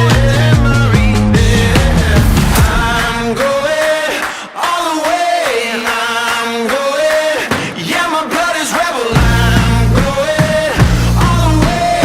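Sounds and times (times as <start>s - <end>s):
person singing over sparse backing: 0.0s - 12.0s.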